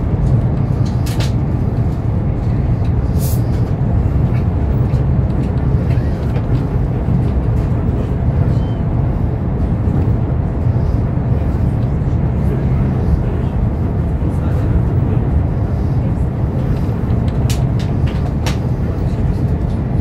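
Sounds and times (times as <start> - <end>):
train rumble inside passenger car: 0.0 - 20.0.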